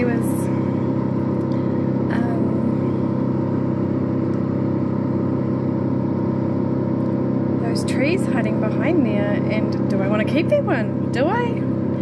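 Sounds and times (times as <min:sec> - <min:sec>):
wood chipper engine droning: 0:00.0 - 0:12.0.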